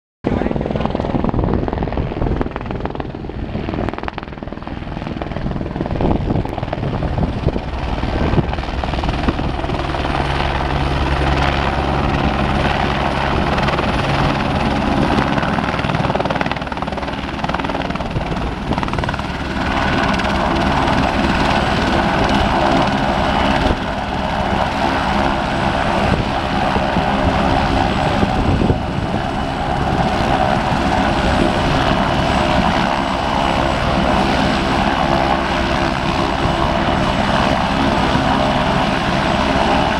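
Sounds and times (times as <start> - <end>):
helicopter engine and rotor: 0.3 - 39.9.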